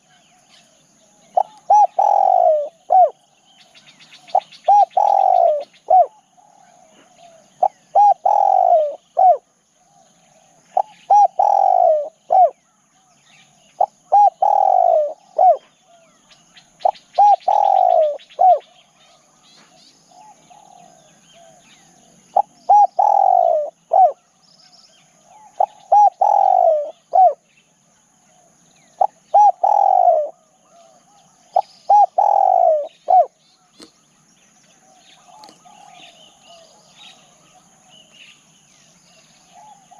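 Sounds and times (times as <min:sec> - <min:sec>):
small birds chirping: 0:00.0 - 0:39.9
dove cooing: 0:01.2 - 0:13.1, 0:13.7 - 0:24.4, 0:25.2 - 0:27.5, 0:28.3 - 0:33.9, 0:34.8 - 0:38.0, 0:39.1 - 0:39.9.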